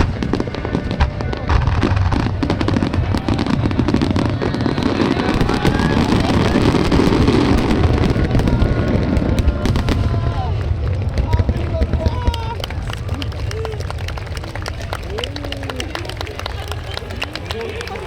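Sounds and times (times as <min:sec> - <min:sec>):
fireworks booming and crackling: 0:00.0 - 0:18.0.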